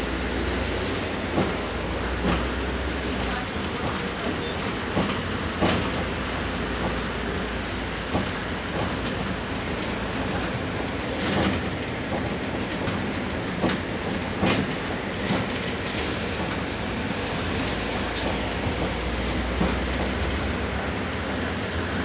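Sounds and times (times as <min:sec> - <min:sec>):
bus interior rumble: 0:00.0 - 0:22.0.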